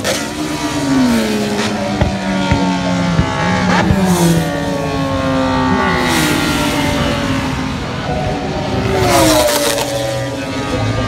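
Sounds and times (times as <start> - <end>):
racing motorcycles passing by: 0.0 - 11.0.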